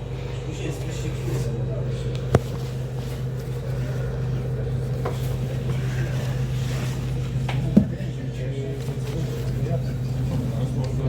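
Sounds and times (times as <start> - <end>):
bus engine hum: 0.0 - 11.0.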